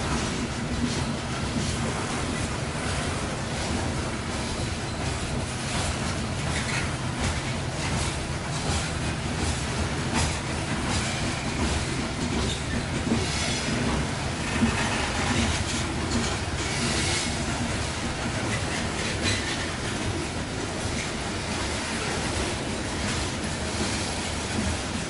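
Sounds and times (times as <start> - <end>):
low rumble of train: 0.0 - 25.0
train wheels clacking on rail joints: 0.0 - 25.0.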